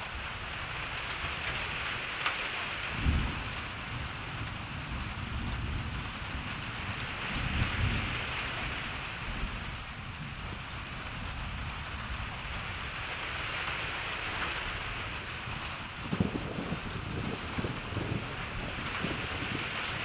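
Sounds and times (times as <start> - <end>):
steady rain hiss: 0.0 - 20.0
wind buffeting microphone: 0.0 - 20.0
distant thunder rumble: 0.7 - 20.0.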